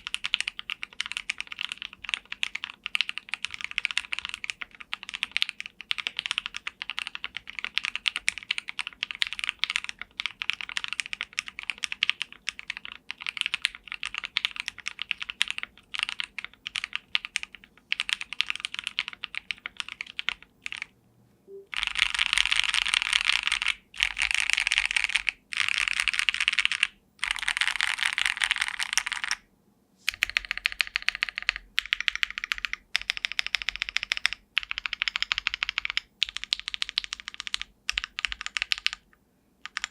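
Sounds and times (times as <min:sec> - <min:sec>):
mechanical keyboard typing: 0:00.0 - 0:20.9, 0:21.7 - 0:29.4, 0:30.1 - 0:39.9.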